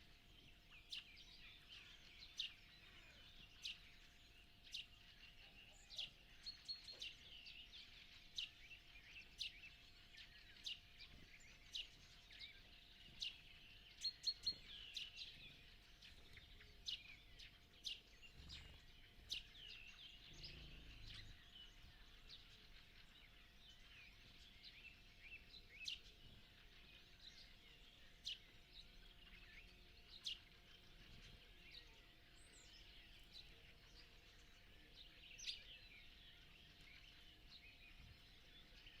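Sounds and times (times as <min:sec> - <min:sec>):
faint steady hum: 0:00.0 - 0:39.0
songbirds chirping: 0:00.0 - 0:39.0.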